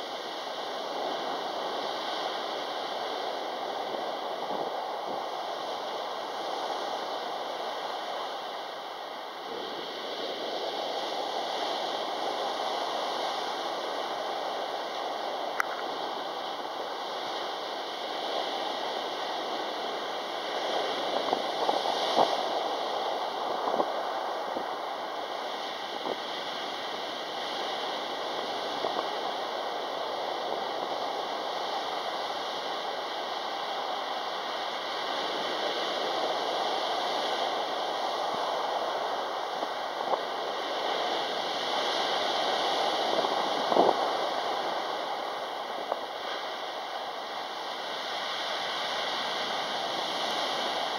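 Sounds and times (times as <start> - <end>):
waves breaking on pebble beach: 0.0 - 50.9.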